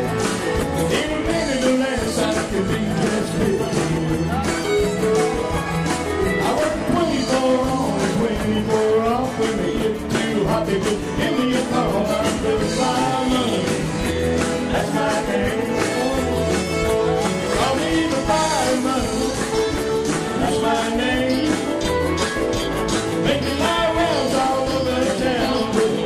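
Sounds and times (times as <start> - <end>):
person singing lead vocal: 0.0 - 22.5, 23.1 - 26.0
live country rock band: 0.0 - 26.0.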